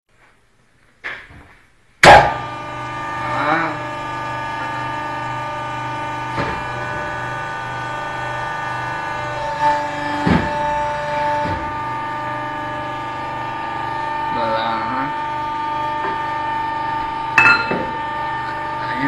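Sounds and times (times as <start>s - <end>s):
crimping machine hum: 2.0s - 19.0s.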